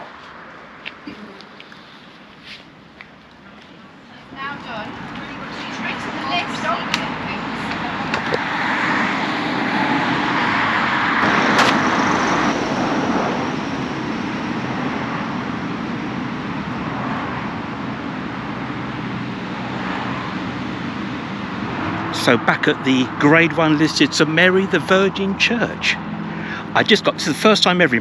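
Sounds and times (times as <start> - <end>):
passing cars: 0.0 - 28.0.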